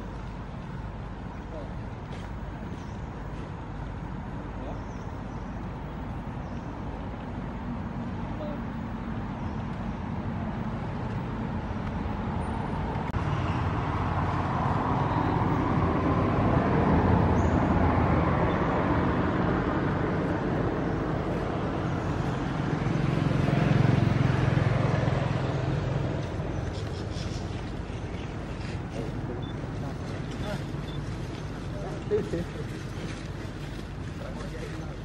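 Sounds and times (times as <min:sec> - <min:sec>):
road traffic rush: 0:00.0 - 0:35.0.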